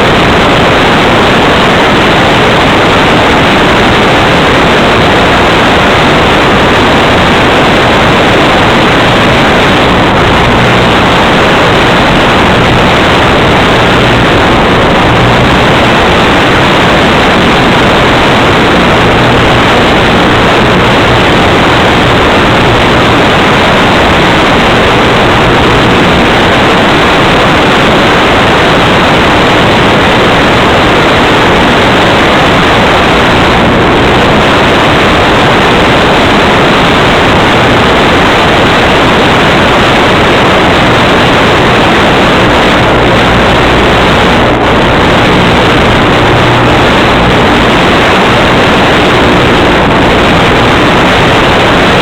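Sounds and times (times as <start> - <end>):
loud steady hiss: 0.0 - 52.0.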